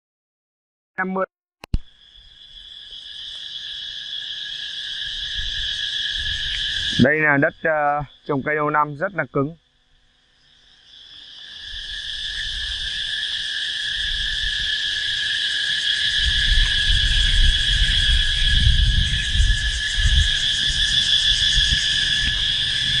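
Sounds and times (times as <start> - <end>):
insects droning: 1.0 - 23.0.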